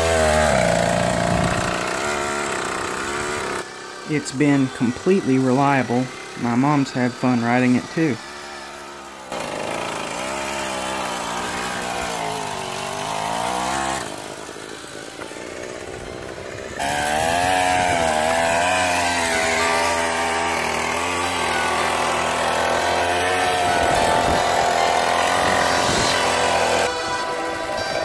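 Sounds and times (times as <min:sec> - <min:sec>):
two-stroke engine running: 0:00.0 - 0:28.0.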